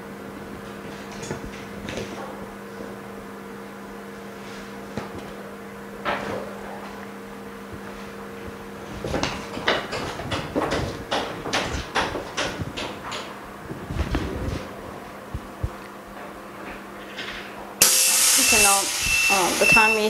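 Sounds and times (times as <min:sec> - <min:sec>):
laminating machine hum: 0:00.0 - 0:20.0.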